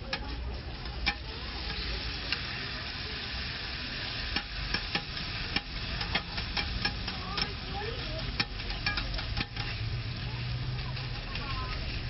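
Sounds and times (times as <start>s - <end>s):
metal spatula clicking on griddle: 0.0s - 2.5s, 4.2s - 12.0s
food sizzling on a griddle: 0.0s - 12.0s.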